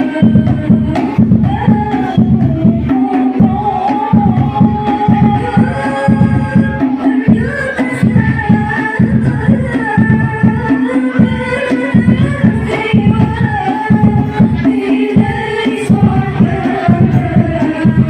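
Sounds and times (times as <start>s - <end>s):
frame drums beating quick rhythm: 0.0s - 18.0s
person singing long melodic lines: 0.0s - 18.0s.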